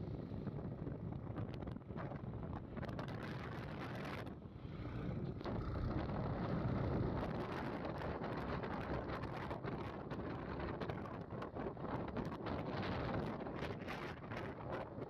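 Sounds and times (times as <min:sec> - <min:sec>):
motorcycle running and road noise: 0:00.0 - 0:15.0
wind buffeting microphone: 0:00.0 - 0:15.0.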